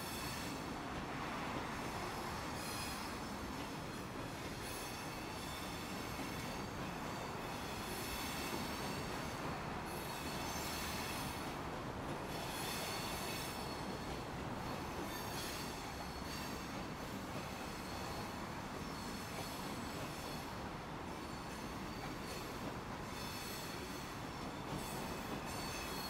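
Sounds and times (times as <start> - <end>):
freight train rumbling: 0.0 - 26.0
train wheels squealing: 0.0 - 26.0.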